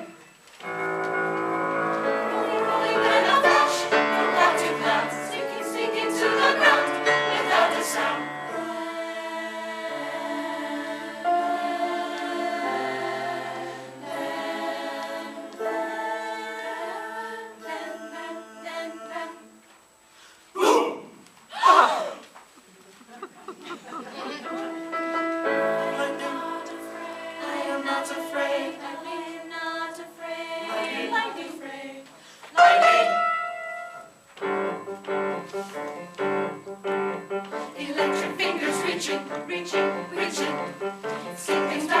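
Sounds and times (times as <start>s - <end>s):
choir singing held chords: 0.0s - 22.2s, 23.6s - 42.0s.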